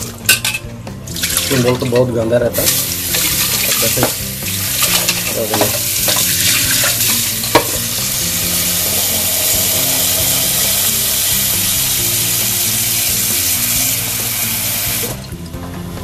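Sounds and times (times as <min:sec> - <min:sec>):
tap water running into metal bowl: 0:00.0 - 0:15.6.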